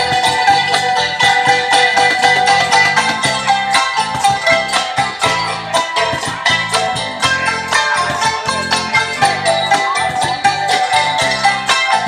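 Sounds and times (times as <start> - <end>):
bass notes: 0.0 - 12.0
mallet-struck tuned bars melody: 0.0 - 12.0
steady beat: 0.0 - 12.0.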